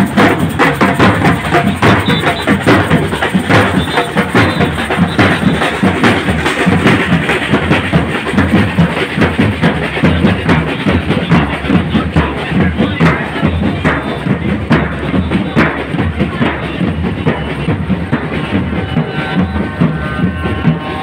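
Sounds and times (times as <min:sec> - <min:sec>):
street drum band playing: 0:00.0 - 0:21.0.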